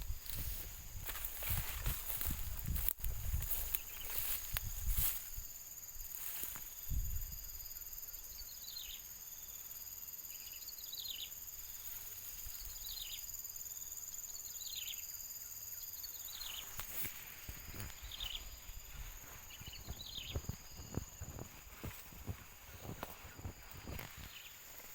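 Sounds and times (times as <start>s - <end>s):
high-pitched insect drone: 0.0s - 24.9s.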